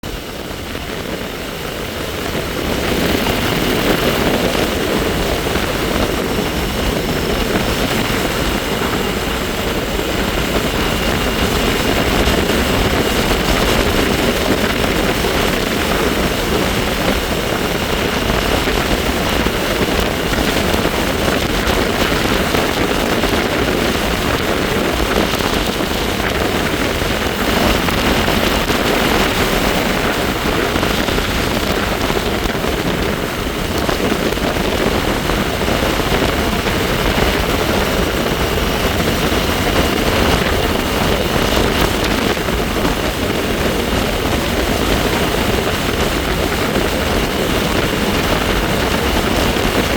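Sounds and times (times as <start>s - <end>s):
wind on microphone: 0.0s - 49.9s.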